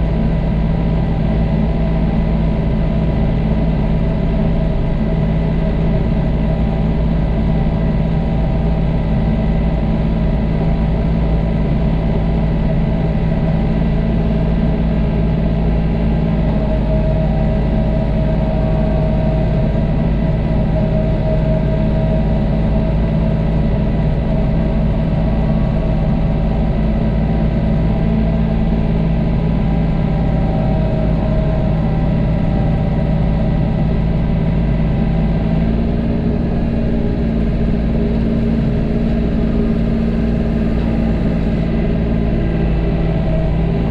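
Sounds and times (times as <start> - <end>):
high engine whine: 0.0 - 43.9
tractor engine running: 0.0 - 43.9.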